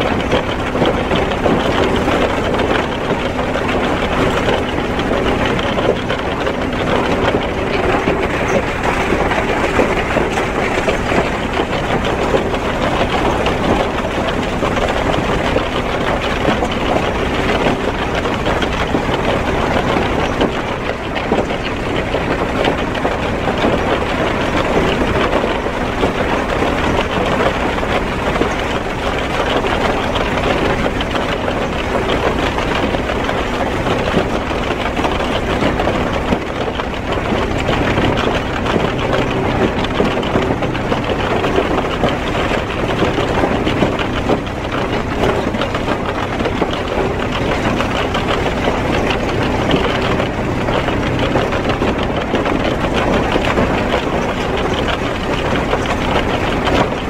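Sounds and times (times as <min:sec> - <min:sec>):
diesel engine drone: 0:00.0 - 0:57.0
rocks rattling through crusher: 0:00.0 - 0:57.0.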